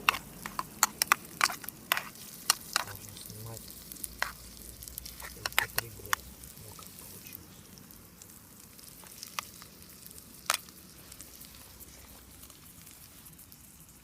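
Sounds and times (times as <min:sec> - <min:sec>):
egg sizzling in a pan: 0:00.0 - 0:14.0
sharp popping of frying: 0:00.0 - 0:14.0.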